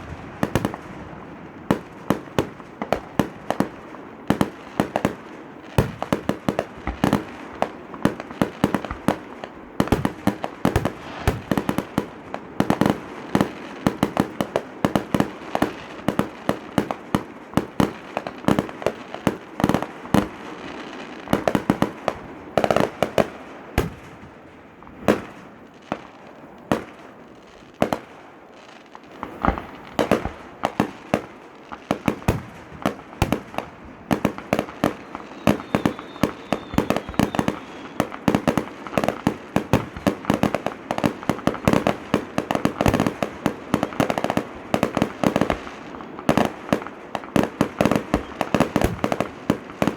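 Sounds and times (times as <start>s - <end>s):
fireworks exploding: 0.0s - 49.9s.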